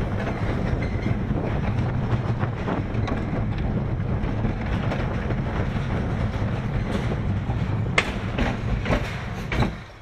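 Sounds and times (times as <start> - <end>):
rattling clicks of wheels: 0.0 - 10.0
roller coaster rumbling on track: 0.0 - 10.0.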